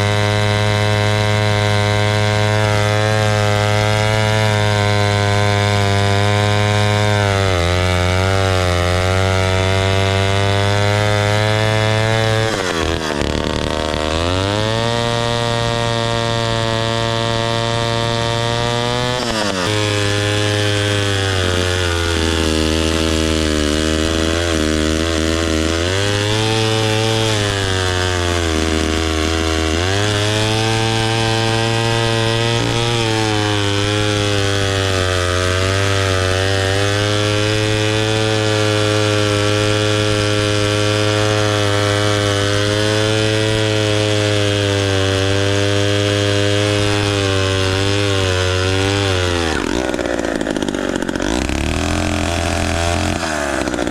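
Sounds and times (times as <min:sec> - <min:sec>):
chainsaw engine running: 0:00.0 - 0:53.9.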